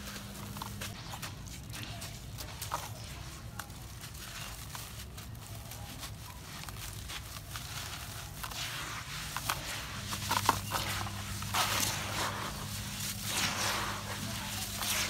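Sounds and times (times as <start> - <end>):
low steady hum: 0.0 - 15.0
wet sand crunching in hands: 0.0 - 15.0.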